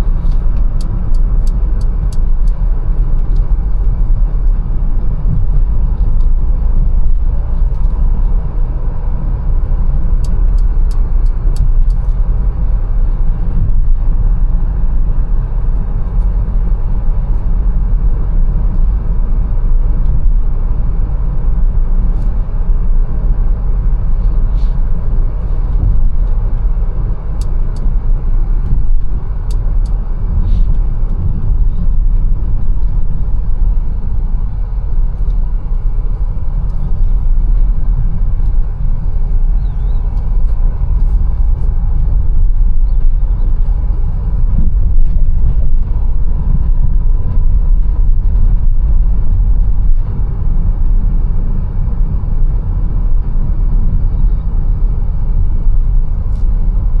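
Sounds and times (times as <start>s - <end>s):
low engine and road rumble: 0.0s - 57.0s.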